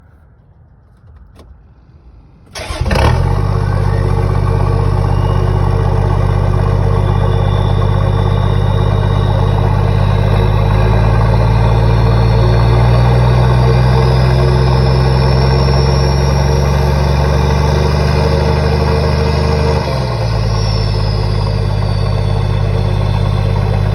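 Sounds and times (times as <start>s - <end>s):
diesel engine starting and idling: 2.5s - 23.9s
turbo whistle: 2.6s - 23.9s.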